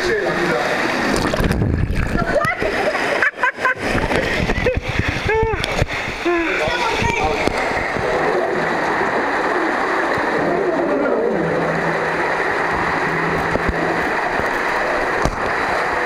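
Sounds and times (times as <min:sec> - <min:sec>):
water rushing through slide: 0:00.0 - 0:16.0.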